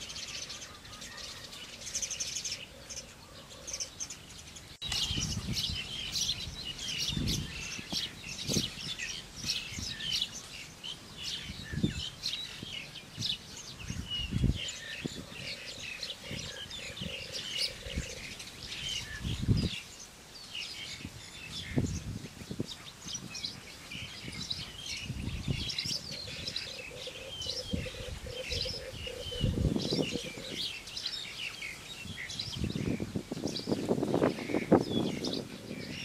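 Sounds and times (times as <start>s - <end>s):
birds chirping and calling: 0.0s - 36.0s.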